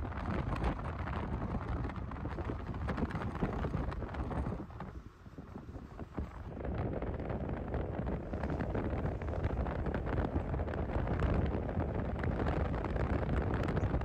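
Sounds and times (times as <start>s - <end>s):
road noise: 0.0s - 14.0s
wind rushing over microphone: 0.0s - 14.0s.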